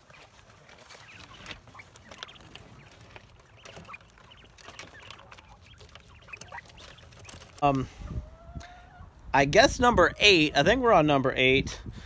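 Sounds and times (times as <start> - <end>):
poultry clucking and chirping: 0.0 - 11.1.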